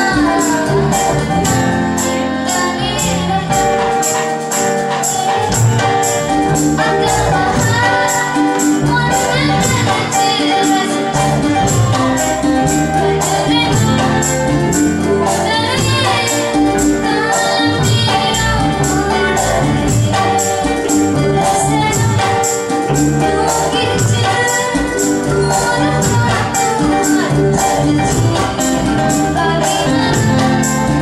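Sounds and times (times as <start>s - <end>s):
high percussion beat: 0.0s - 31.0s
live band playing: 0.0s - 31.0s
person singing: 0.0s - 31.0s.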